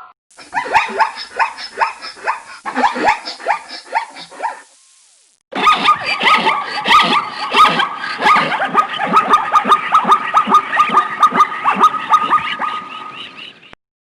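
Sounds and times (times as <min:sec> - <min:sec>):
zebra yelping barks: 0:00.4 - 0:04.7, 0:05.6 - 0:13.5.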